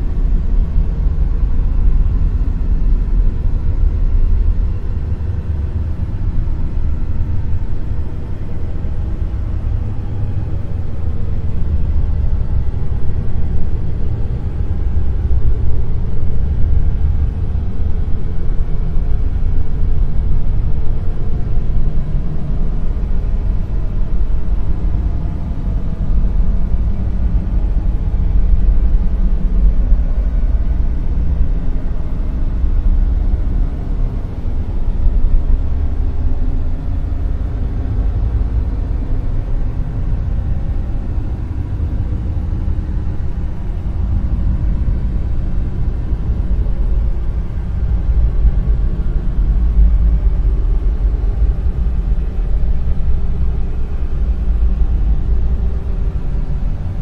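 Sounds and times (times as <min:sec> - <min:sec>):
deep low noise: 0:00.0 - 0:57.0.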